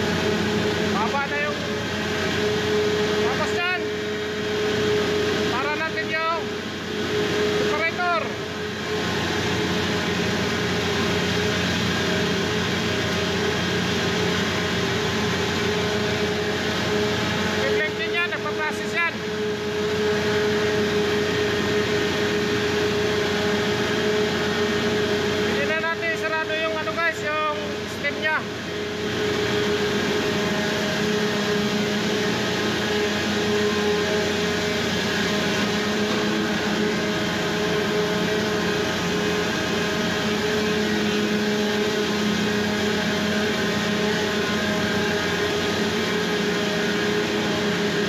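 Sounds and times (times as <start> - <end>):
engine-room machinery drone: 0.0 - 48.0
fuel purifier pumps running: 0.0 - 48.0.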